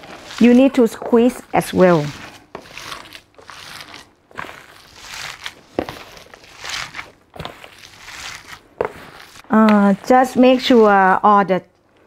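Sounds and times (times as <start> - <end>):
rustling squeezes: 0.0 - 11.2
gloved hands kneading mixture: 0.0 - 11.8.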